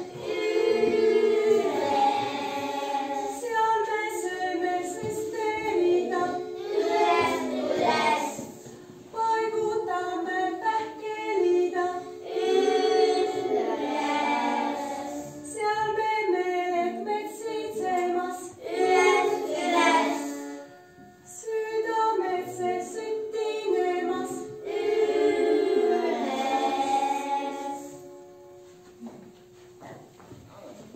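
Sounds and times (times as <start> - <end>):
children and woman singing: 0.0 - 28.3.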